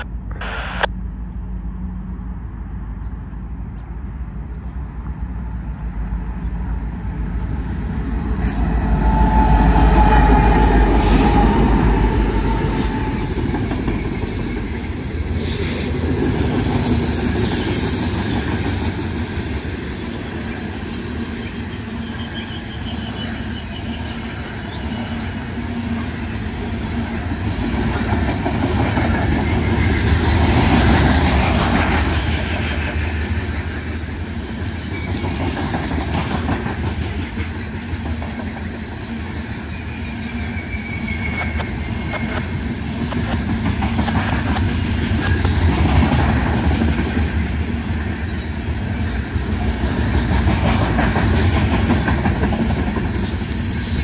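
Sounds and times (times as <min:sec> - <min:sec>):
diesel locomotives rumbling: 0:00.0 - 0:54.0
train wheels on rails: 0:03.6 - 0:54.0.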